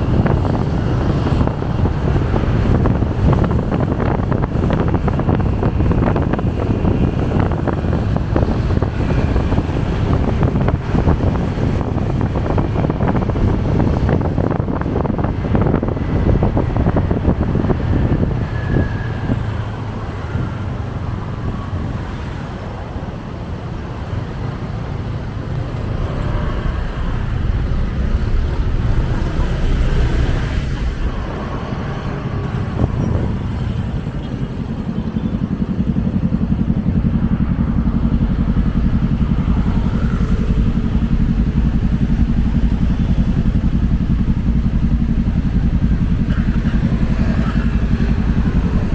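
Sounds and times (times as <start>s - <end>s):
city traffic: 0.0s - 48.9s
motorcycle engine: 0.0s - 48.9s
wind buffeting microphone: 0.0s - 48.9s.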